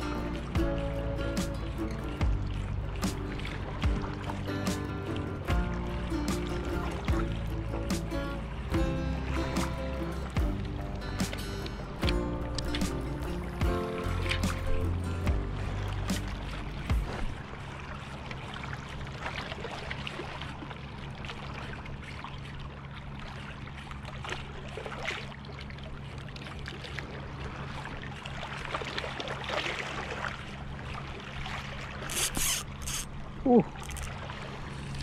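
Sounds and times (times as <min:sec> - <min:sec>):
low hum: 0:00.0 - 0:35.0
small waves lapping on rocks: 0:00.0 - 0:35.0.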